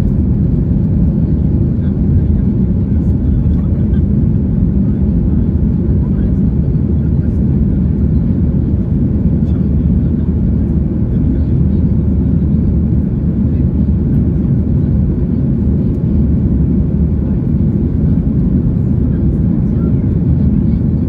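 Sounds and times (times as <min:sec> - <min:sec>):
airplane engines rumbling in cabin: 0:00.0 - 0:21.0.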